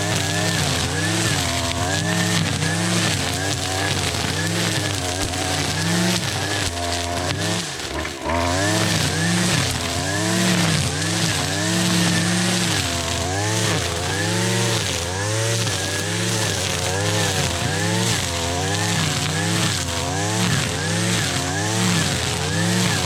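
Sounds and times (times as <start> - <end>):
string trimmer cutting grass: 0.0 - 23.0.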